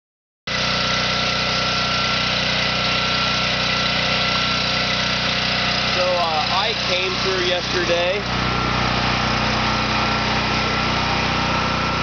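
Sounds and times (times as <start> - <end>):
generator engine running: 0.5 - 12.0.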